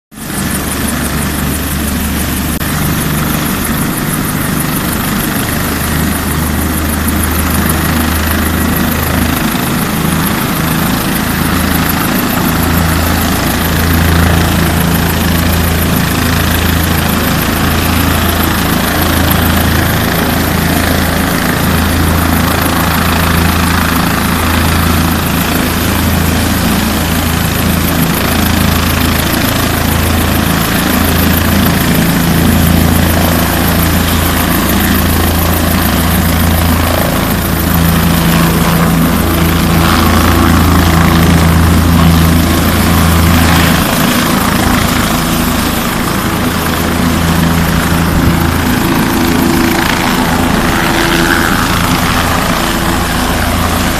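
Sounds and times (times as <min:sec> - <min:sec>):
helicopter turbine and rotor running: 0:00.1 - 0:53.9.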